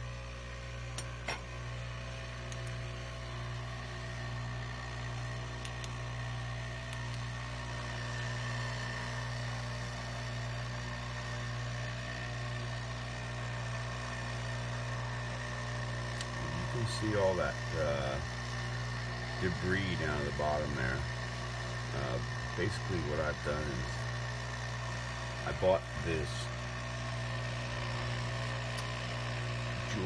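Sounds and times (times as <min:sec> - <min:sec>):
ultrasonic cleaner buzzing: 0:00.0 - 0:30.0.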